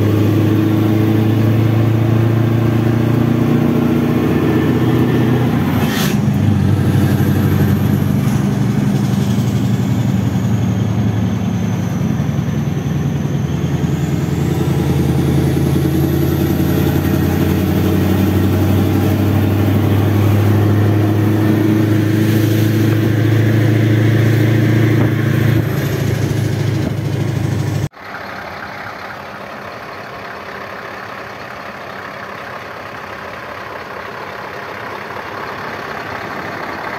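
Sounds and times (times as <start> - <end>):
diesel truck engine drone: 0.0 - 36.9.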